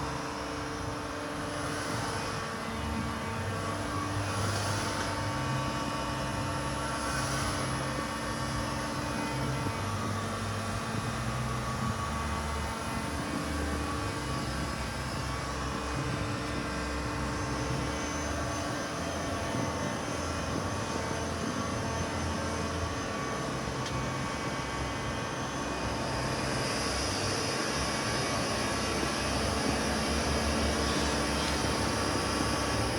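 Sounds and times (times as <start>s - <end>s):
milling machine running: 0.0s - 32.9s.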